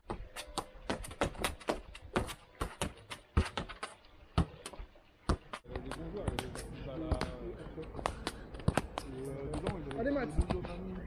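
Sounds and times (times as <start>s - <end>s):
football tapping against shoes: 0.0s - 11.0s.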